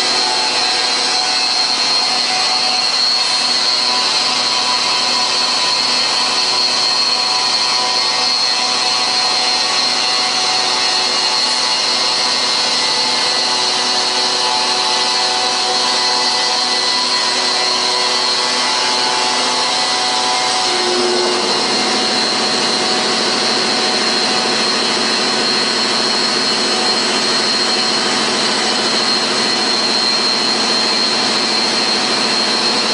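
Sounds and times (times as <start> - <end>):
stone cutting machine whining: 0.0 - 32.9.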